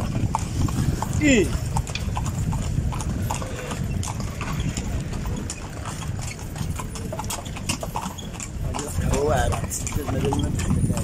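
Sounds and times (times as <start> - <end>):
horse hooves clip-clopping on pavement: 0.0 - 11.0.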